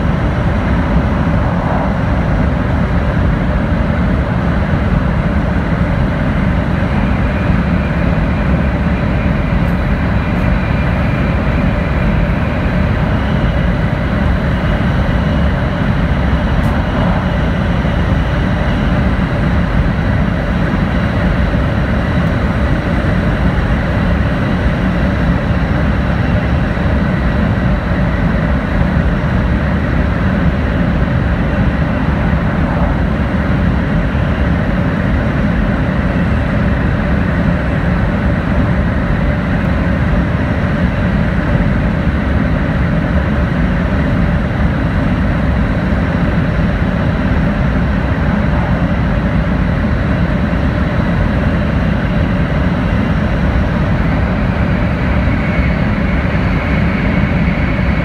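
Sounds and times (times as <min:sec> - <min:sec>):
train interior low rush: 0:00.0 - 0:58.0.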